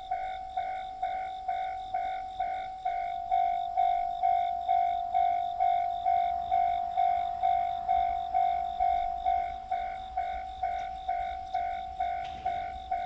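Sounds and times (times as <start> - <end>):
level crossing alarm bell: 0.0 - 13.0.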